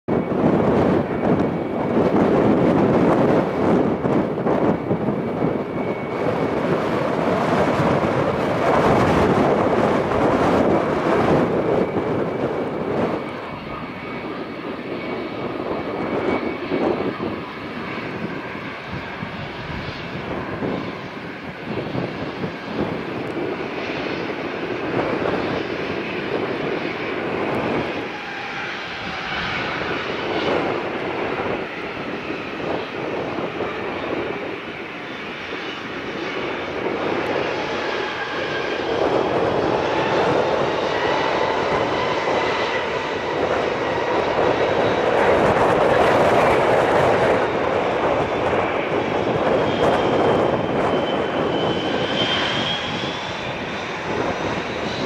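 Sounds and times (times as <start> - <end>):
distant jet engines running: 0.1 - 55.0.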